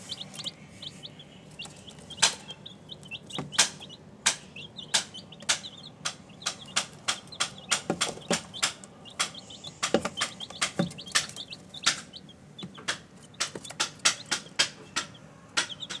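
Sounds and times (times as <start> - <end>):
chicks peeping: 0.0 - 16.0
sharp taps: 1.6 - 16.0.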